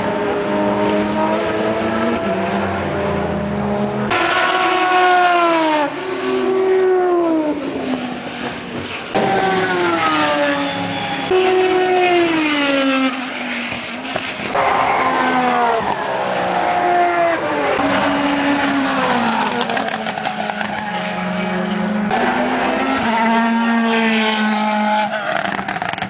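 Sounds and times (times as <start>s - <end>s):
race cars passing by: 0.0s - 26.0s.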